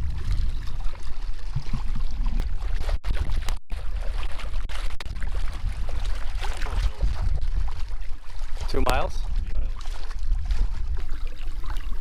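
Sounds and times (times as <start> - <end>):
low rumble: 0.0 - 11.8
water splashing around canoe: 0.0 - 12.0.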